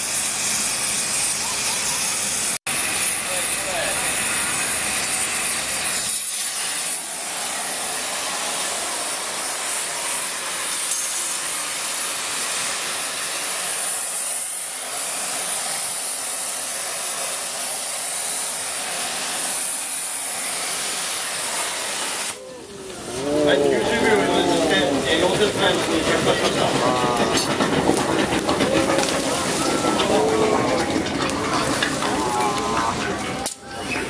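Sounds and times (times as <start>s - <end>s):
gas torch hissing: 0.0s - 33.6s.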